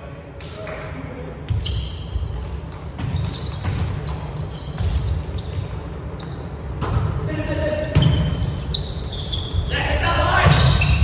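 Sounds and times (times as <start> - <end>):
sneakers squeaking on gym floor: 1.5 - 7.2, 7.9 - 11.0.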